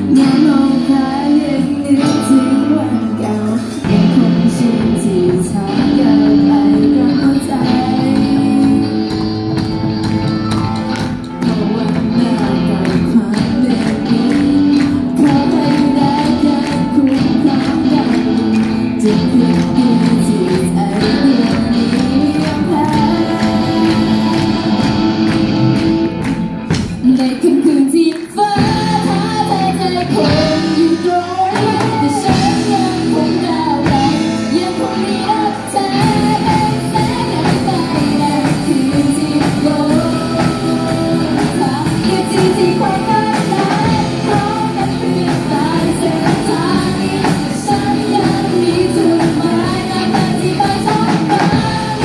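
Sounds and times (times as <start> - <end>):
person singing: 0.0 - 26.1, 27.0 - 52.0
live rock band playing: 0.0 - 52.0.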